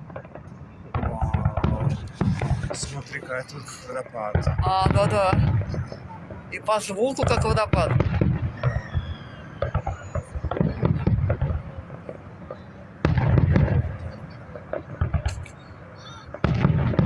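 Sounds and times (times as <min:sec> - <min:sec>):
firework shells booming: 0:00.0 - 0:17.0
fireworks crackling and popping: 0:00.0 - 0:17.0.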